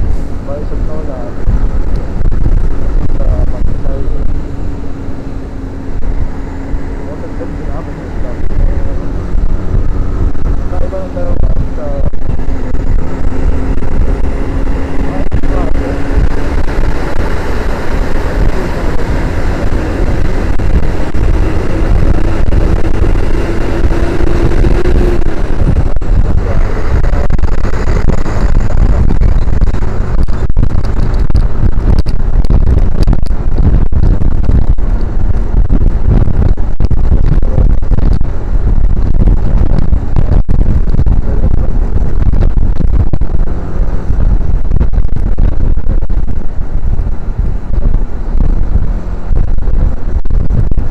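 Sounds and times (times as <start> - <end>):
motorcycle engine and road rumble: 0.0 - 50.9
wind buffeting on microphone: 0.0 - 50.9.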